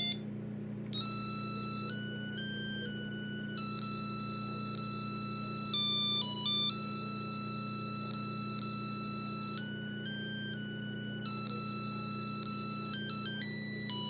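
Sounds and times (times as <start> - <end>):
beeping phone ringtone: 0.0 - 0.2, 1.0 - 14.0
steady low hum: 0.0 - 14.0.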